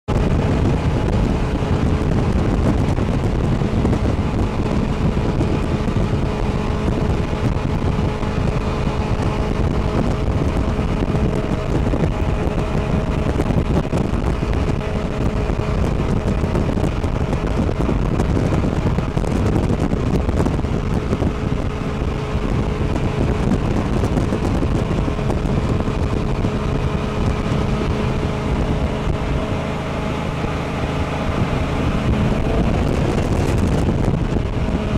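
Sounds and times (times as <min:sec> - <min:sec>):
jet boat engine running: 0:00.0 - 0:34.9
wind noise on microphone: 0:00.0 - 0:34.9.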